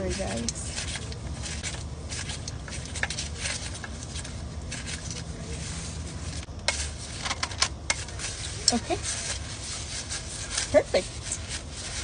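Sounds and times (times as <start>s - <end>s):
hands rubbing and scraping: 0.0s - 12.0s
steady low hum: 0.0s - 12.0s.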